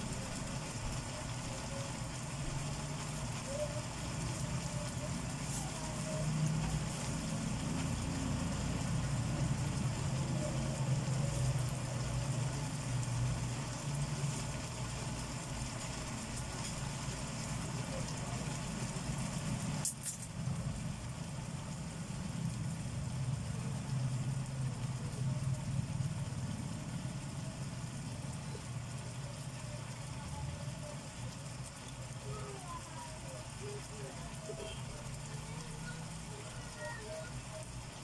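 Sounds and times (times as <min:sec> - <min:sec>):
food simmering in a pan: 0:00.0 - 0:38.0
gas stove rumble: 0:00.0 - 0:38.0.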